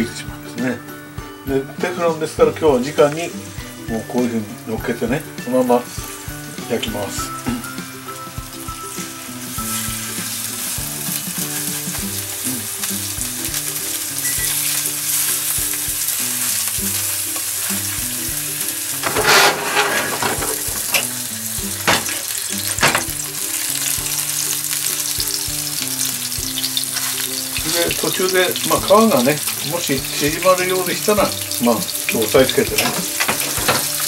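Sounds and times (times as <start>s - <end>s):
fish sizzling in frying pan: 0.6s - 34.0s
oil spatter crackling: 5.6s - 34.0s.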